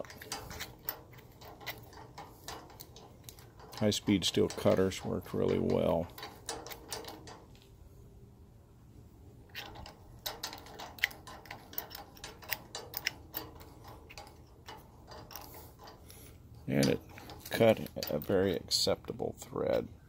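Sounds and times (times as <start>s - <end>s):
ratchet handle clicking: 0.0s - 7.6s, 9.5s - 18.4s.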